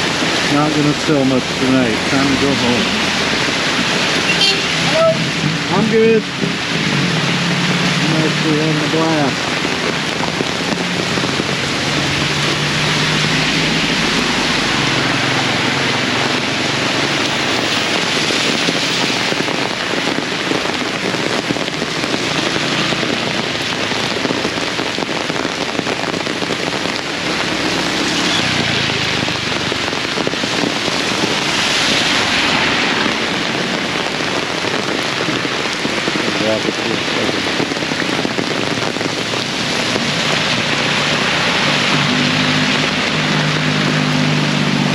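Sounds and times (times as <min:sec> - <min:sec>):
heavy rain on hard surfaces: 0:00.0 - 0:44.9.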